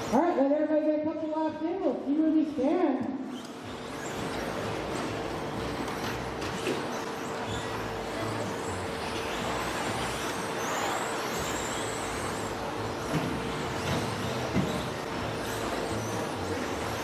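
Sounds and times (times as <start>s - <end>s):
rc truck motors whining: 0.0s - 0.2s, 3.3s - 17.0s
steady hum: 0.0s - 17.0s.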